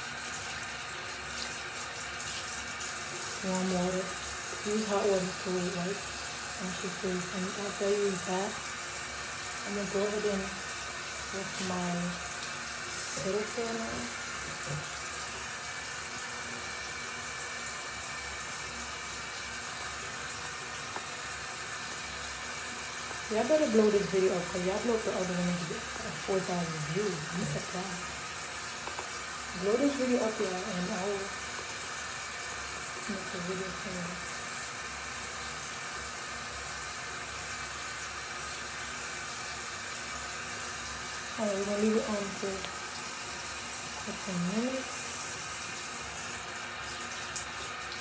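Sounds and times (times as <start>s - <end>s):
tap water running into sink: 0.0s - 48.0s.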